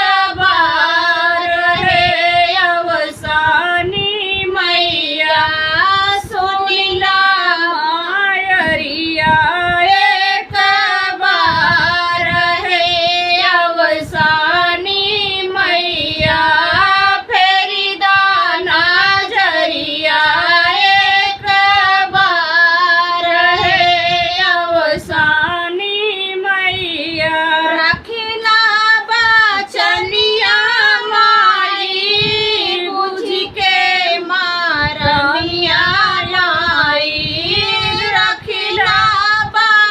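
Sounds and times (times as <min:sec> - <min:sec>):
woman singing folk song: 0:00.0 - 0:39.9.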